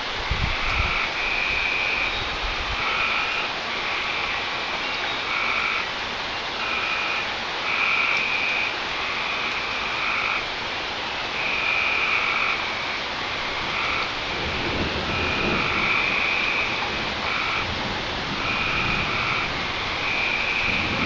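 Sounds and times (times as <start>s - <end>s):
rain hiss: 0.0s - 21.0s
frogs calling: 0.5s - 21.0s.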